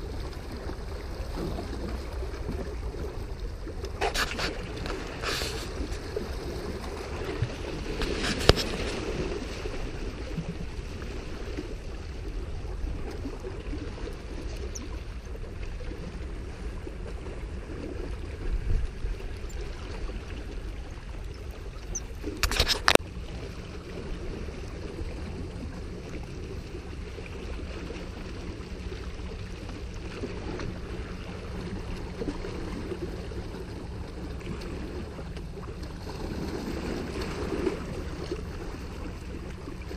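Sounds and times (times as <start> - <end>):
waves lapping against rocks: 0.0 - 39.9
wind rumble on microphone: 0.0 - 39.9.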